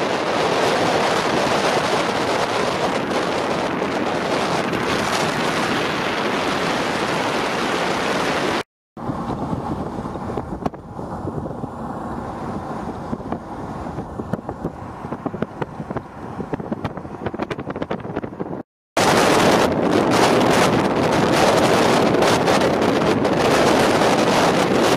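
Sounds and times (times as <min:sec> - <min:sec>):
vehicle wind and road noise: 0:00.0 - 0:24.9
wind rumble on microphone: 0:00.0 - 0:24.9.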